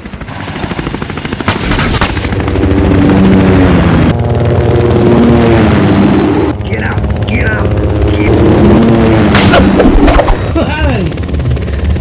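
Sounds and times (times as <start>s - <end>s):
engine drone: 0.0s - 12.0s
helicopter rotor chopping: 0.0s - 12.0s.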